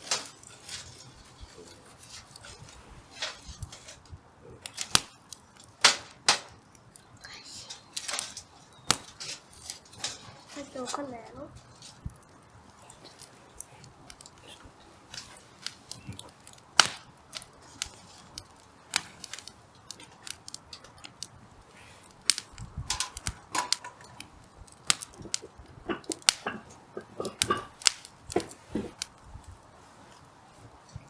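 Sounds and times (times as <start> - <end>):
firewood crackling and popping: 0.0 - 31.0.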